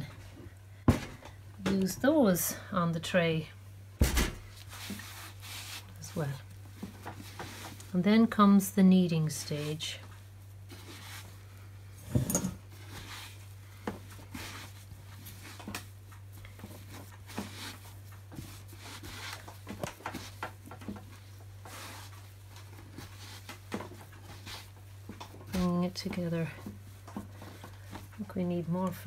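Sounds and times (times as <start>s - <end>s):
steady low hum: 0.0s - 29.0s
hands kneading dough: 4.4s - 12.0s, 12.6s - 29.0s.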